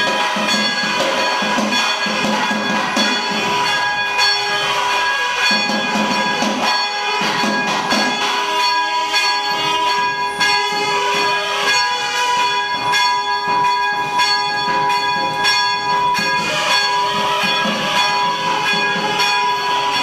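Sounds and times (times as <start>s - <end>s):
temple bells ringing: 0.0s - 20.0s.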